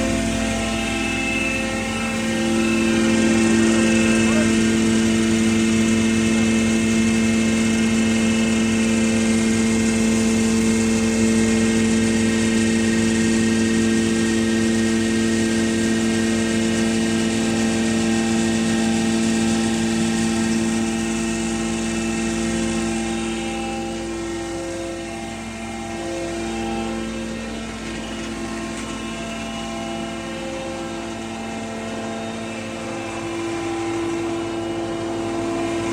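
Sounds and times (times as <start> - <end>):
feed pulveriser machine humming: 0.0 - 35.9.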